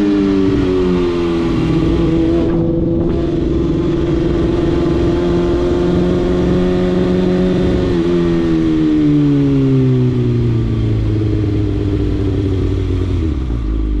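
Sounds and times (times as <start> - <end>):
motorcycle engine slowing: 0.0 - 14.0.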